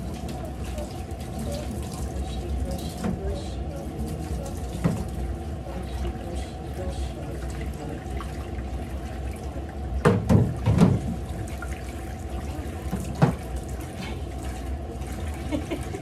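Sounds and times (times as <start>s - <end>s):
tap water splashing into metal sink: 0.0s - 6.2s, 9.0s - 15.9s.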